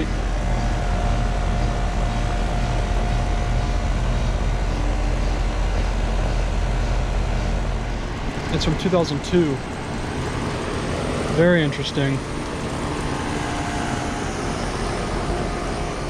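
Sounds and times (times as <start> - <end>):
air conditioner hum: 0.0 - 16.0.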